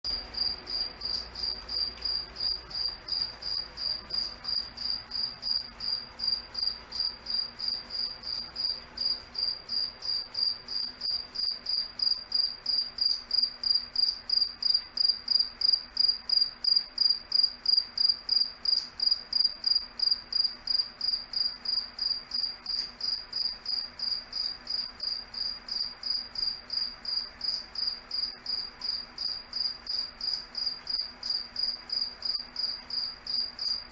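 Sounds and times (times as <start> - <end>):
cricket chirping: 0.1 - 33.9.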